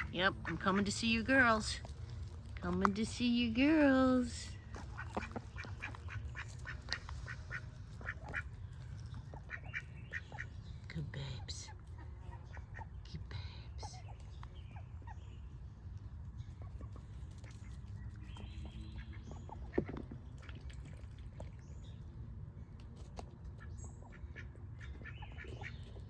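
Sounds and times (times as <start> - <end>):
ducks calling quietly: 0.0 - 21.8, 23.4 - 26.0.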